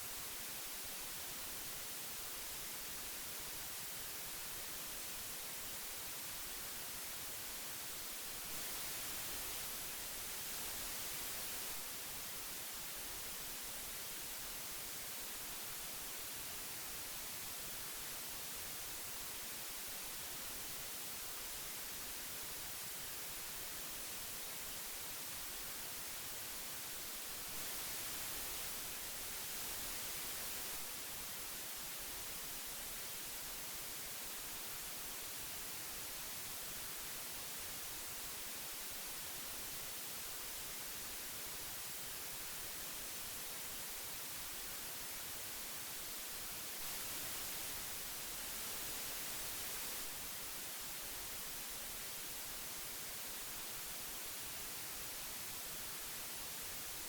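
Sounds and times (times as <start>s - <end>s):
tape hiss: 0.0s - 57.0s.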